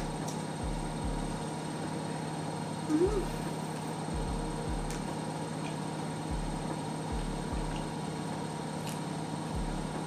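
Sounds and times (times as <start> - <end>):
background hum and hiss: 0.0 - 10.0.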